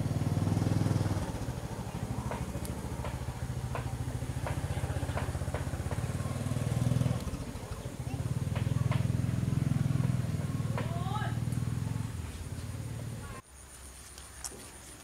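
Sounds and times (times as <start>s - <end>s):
small engine running: 0.0s - 13.4s.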